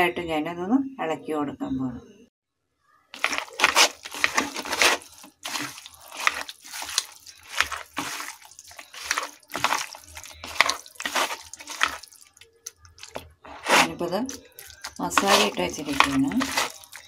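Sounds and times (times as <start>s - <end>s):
hand squelching raw meat: 3.2s - 17.0s.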